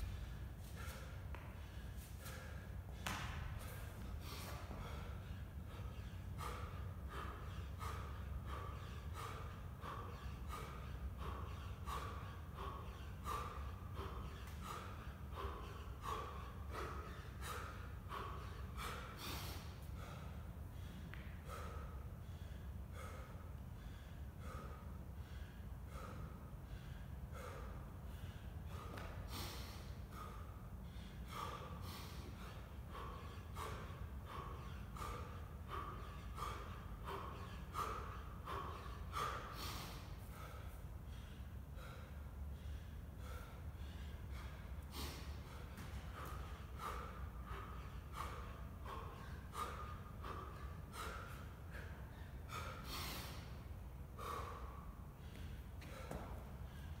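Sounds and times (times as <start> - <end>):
man breathing hard: 0.0 - 57.0.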